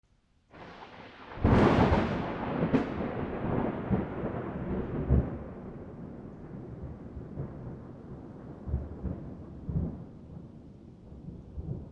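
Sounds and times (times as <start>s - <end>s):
thunder cracks: 0.6s - 10.5s
thunder rumble: 0.6s - 11.9s.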